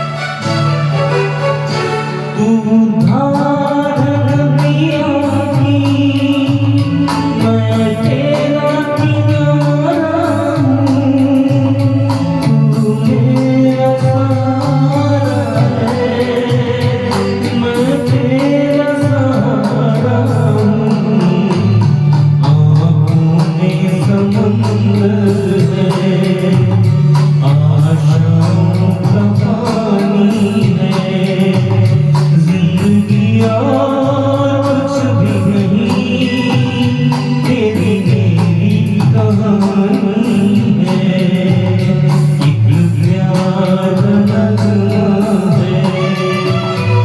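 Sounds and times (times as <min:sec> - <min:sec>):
instrumental accompaniment: 0:00.0 - 0:47.0.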